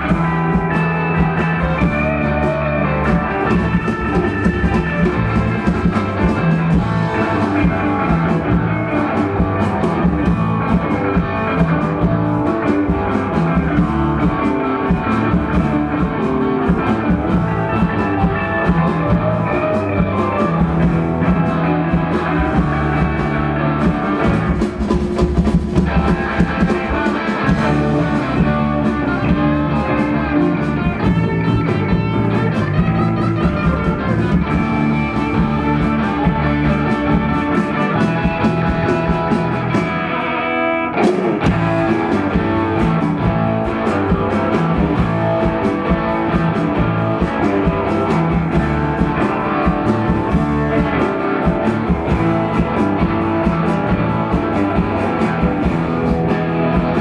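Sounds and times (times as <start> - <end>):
live surf rock band: 0.0 - 57.0.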